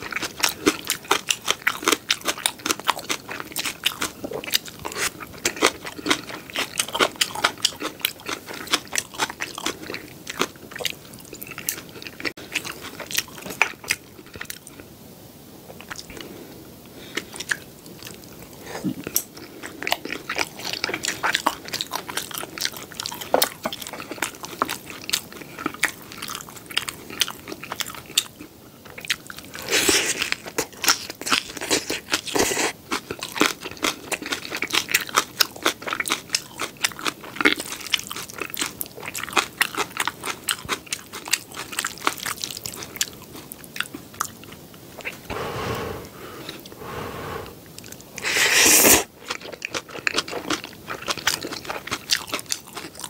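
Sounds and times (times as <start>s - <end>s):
chewing crunchy fried food: 0.0s - 15.0s, 15.6s - 53.0s.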